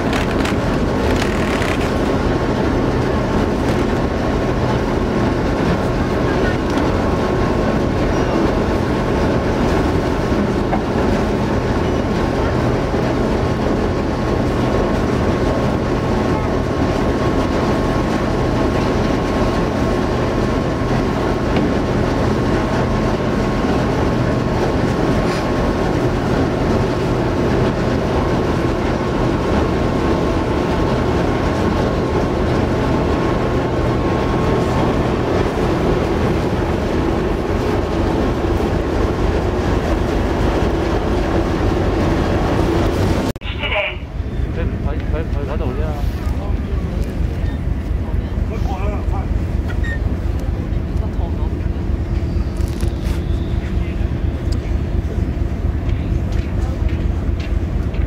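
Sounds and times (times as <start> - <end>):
ship engines rumbling: 0.0 - 58.0.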